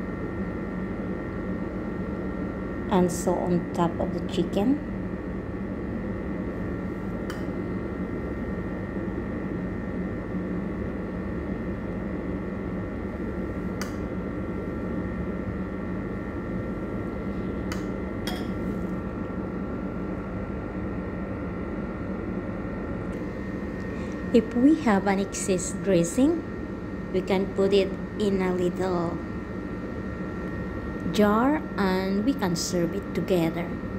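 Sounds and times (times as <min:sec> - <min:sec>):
steady background hum: 0:00.0 - 0:33.9.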